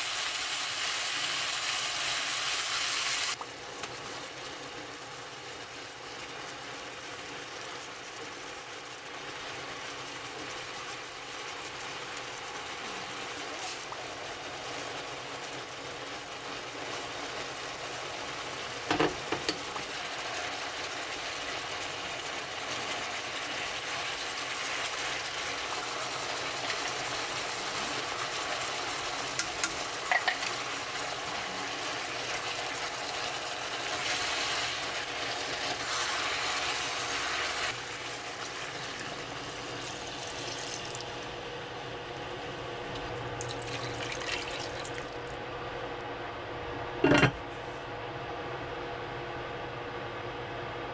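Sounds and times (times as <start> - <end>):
steady cooking hiss: 0.0 - 50.9.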